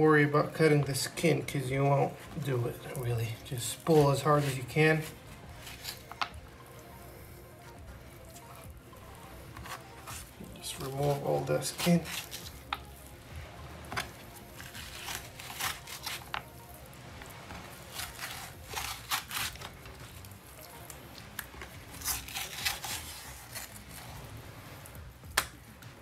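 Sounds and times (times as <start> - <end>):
fish skin tearing and scraping: 0.7 - 13.2, 13.8 - 25.8.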